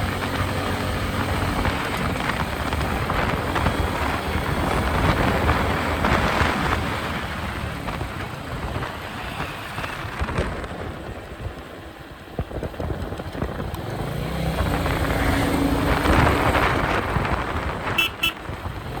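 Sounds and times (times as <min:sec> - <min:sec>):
motorcycle engine and exhaust: 0:00.0 - 0:19.0
wind noise on microphone: 0:00.0 - 0:19.0.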